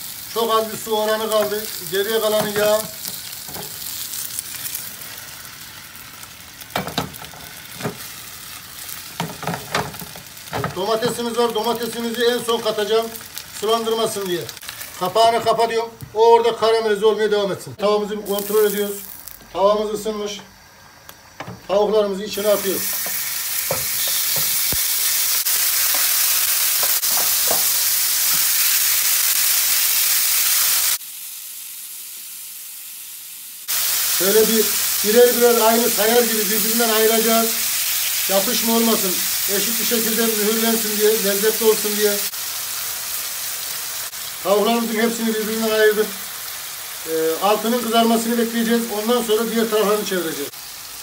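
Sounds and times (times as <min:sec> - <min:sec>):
vegetables sizzling in oil: 0:00.0 - 0:16.6, 0:18.2 - 0:20.0, 0:22.2 - 0:51.0.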